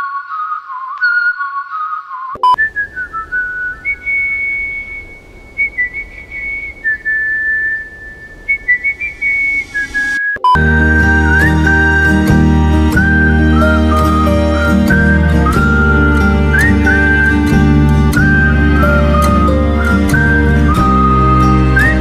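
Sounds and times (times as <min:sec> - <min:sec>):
whistled melody: 0:00.0 - 0:22.0
faint hiss: 0:02.6 - 0:22.0.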